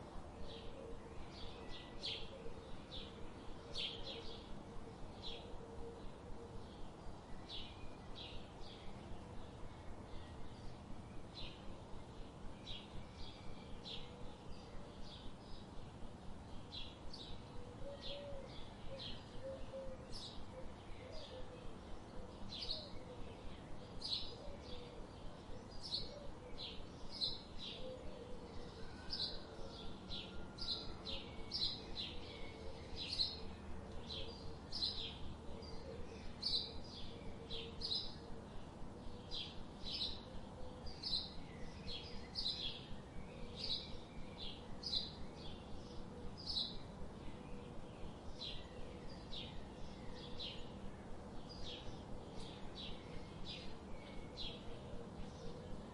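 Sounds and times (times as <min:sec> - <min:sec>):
outdoor background noise: 0:00.0 - 0:55.9.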